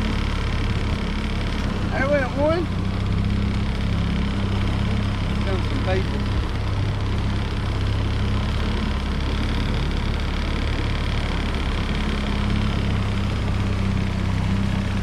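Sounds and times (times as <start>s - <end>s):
outboard motor droning: 0.0s - 15.0s.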